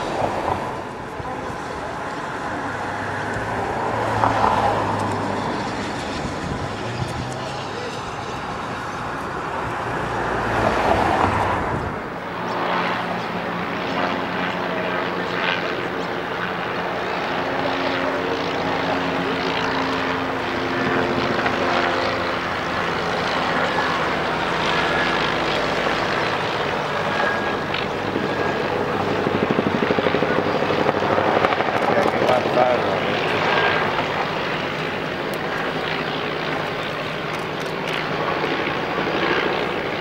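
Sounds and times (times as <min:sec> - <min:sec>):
propeller plane engines droning: 0:00.0 - 0:40.0.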